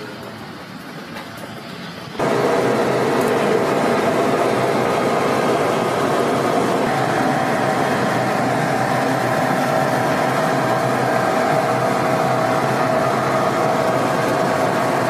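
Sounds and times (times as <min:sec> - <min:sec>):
ventilation and machinery hum: 0:00.0 - 0:15.0.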